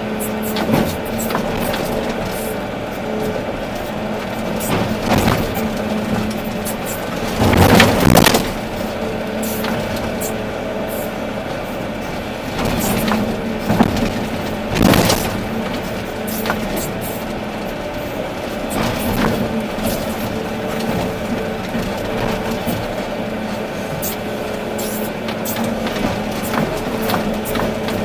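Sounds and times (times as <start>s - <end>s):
bucket crunching earth and rock: 0.0s - 28.0s
excavator diesel engine running: 0.0s - 28.0s.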